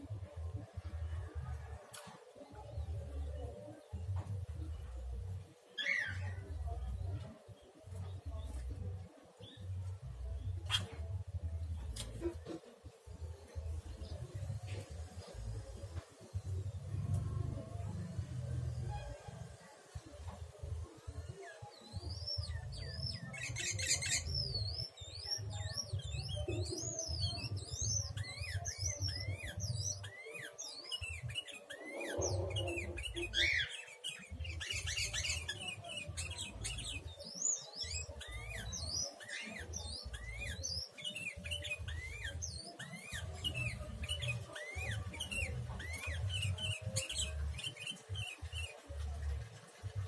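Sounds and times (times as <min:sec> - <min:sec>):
birds chirping and calling: 0:01.9 - 0:50.0.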